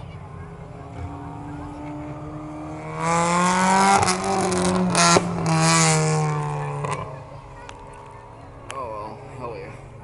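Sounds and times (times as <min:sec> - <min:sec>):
race car engines passing by: 0:00.0 - 0:10.0.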